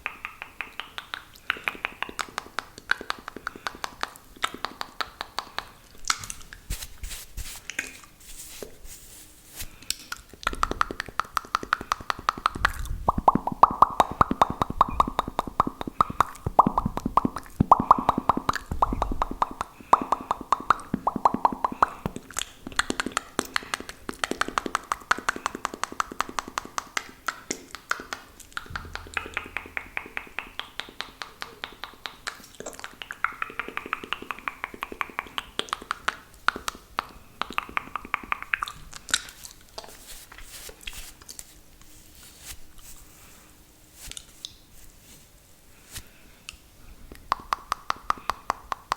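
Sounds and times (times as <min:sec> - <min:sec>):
spit clicks and lip smacks: 0:00.0 - 0:06.7, 0:09.8 - 0:40.0, 0:46.5 - 0:48.9.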